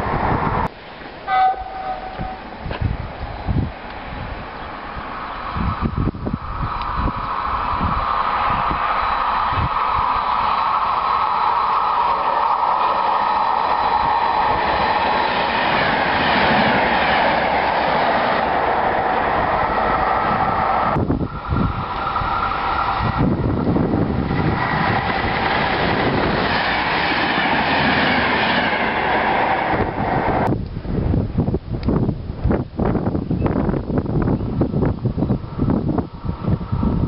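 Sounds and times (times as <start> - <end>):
passenger trains passing: 0.0 - 37.0.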